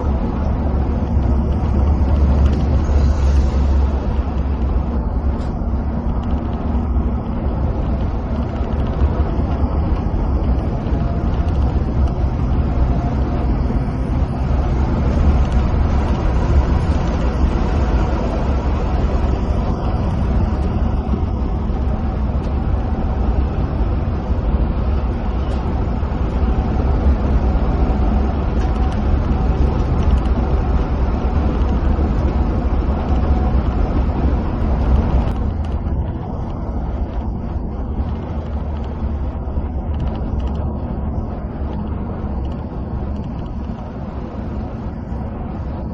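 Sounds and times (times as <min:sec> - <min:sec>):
bus engine drone: 0:00.0 - 0:45.9
tyre and road noise: 0:00.0 - 0:45.9.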